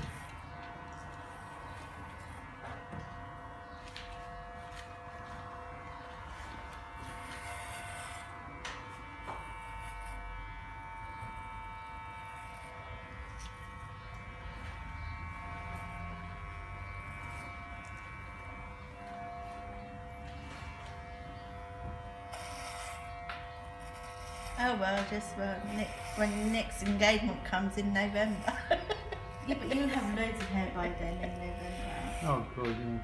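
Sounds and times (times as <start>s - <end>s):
electric hair clippers buzzing: 0.0s - 33.0s.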